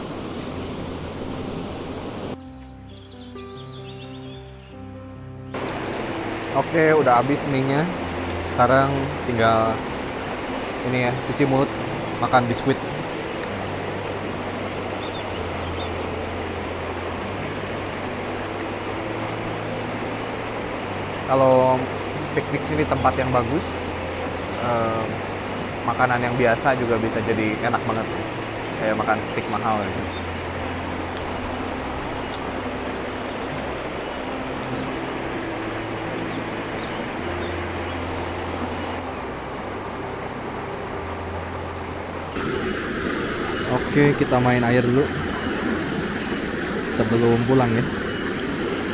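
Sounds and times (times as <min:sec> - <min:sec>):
river rushing: 0:00.0 - 0:48.9.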